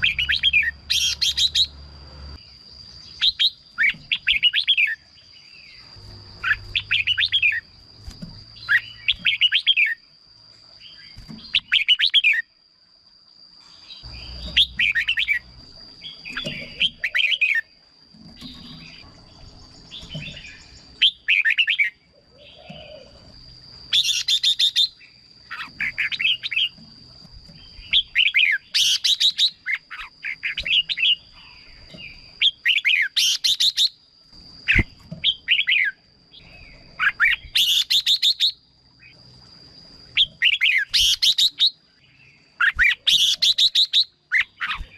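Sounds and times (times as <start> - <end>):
bird whistled song: 0.0 - 1.8, 3.0 - 7.7, 8.6 - 10.0, 10.8 - 12.5, 13.9 - 17.7, 18.4 - 23.1, 23.9 - 26.8, 27.7 - 34.0, 34.6 - 39.2, 40.2 - 44.9.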